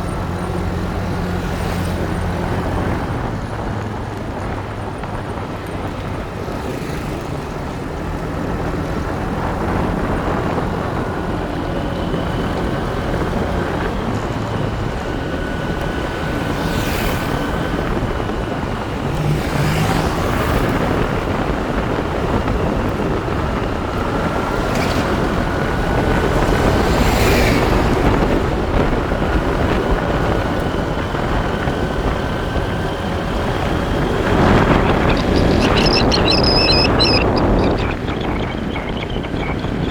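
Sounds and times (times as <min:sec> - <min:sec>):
motorbike engine: 0:00.0 - 0:39.9
wind rush on microphone: 0:00.0 - 0:39.9.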